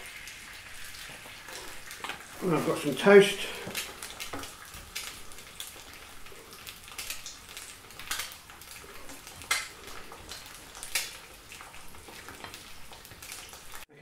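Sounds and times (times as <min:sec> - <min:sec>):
eggs sizzling in fat: 0:00.0 - 0:13.9.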